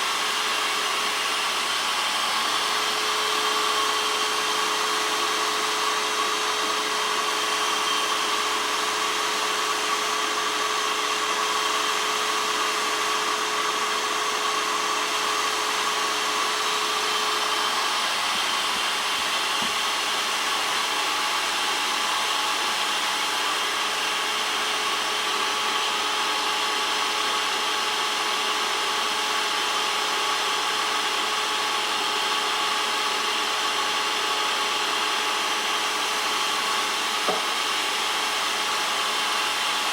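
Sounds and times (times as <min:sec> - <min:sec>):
grinding machine whine: 0:00.0 - 0:39.9.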